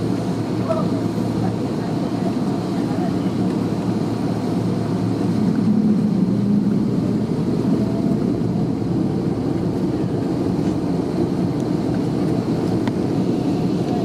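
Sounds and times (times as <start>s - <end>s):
airliner engines humming: 0.0s - 14.0s.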